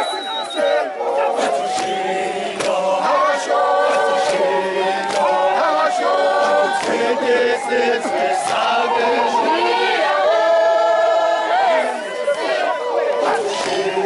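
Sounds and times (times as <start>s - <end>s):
group of men singing: 0.0s - 14.0s.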